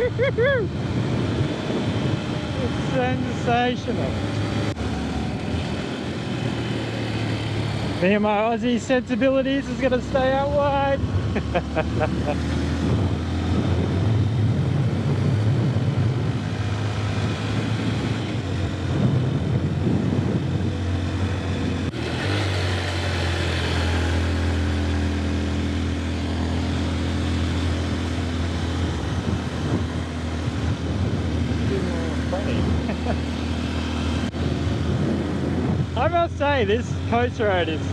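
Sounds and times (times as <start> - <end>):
wind rushing: 0.0 - 8.2, 10.5 - 22.6, 27.4 - 37.9
motorcycle engine running: 0.0 - 37.9.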